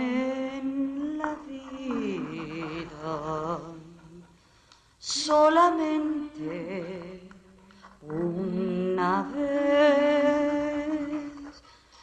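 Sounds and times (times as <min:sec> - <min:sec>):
low hum under singing: 0:00.0 - 0:12.0
person singing with vibrato: 0:00.0 - 0:12.0.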